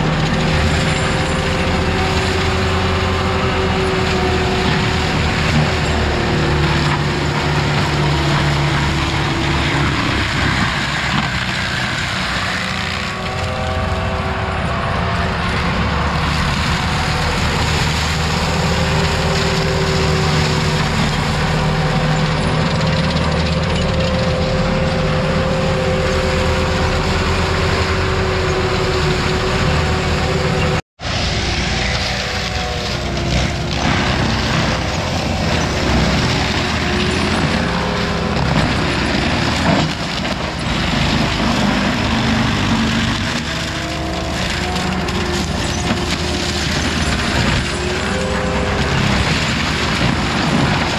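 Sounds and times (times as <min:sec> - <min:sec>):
heavy equipment engine running: 0:00.0 - 0:50.9.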